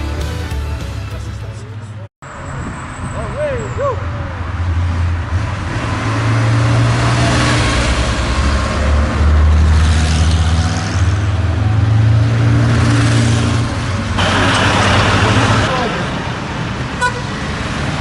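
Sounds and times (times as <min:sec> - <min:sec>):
tyre and road noise: 0:00.0 - 0:18.0
rally car engines: 0:01.2 - 0:18.0.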